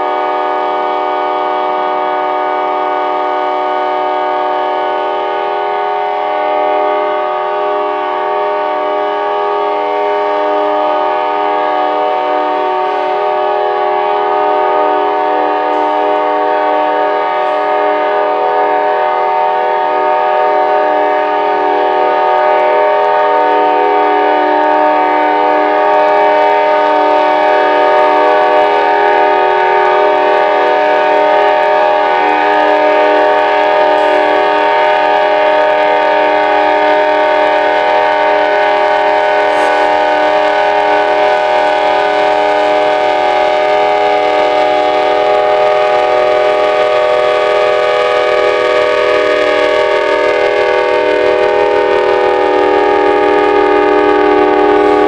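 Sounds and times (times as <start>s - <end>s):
locomotive air horn chord: 0.0s - 55.0s.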